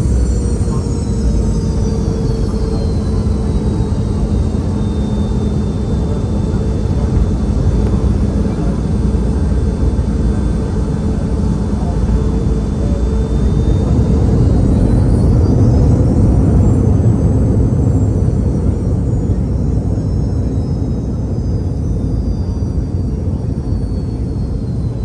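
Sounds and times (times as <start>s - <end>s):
aircraft engines low rumble: 0.0s - 25.0s
thin high whine: 0.0s - 25.0s.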